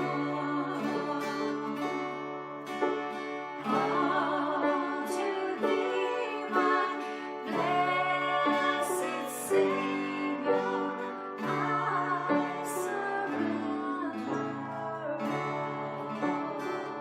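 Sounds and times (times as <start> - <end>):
people singing: 0.0 - 2.3, 3.6 - 17.0
acoustic guitar strumming: 0.0 - 17.0.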